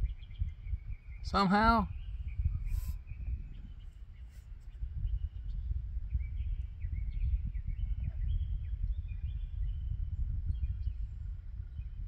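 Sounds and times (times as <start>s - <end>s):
birds chirping: 0.0s - 12.0s
low rumble on microphone: 0.0s - 12.0s.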